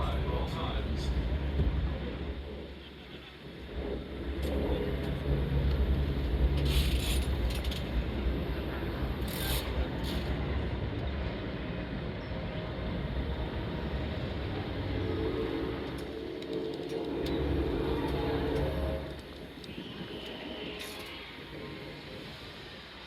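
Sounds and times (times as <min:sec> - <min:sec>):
low mechanical rumble: 0:00.0 - 0:20.8.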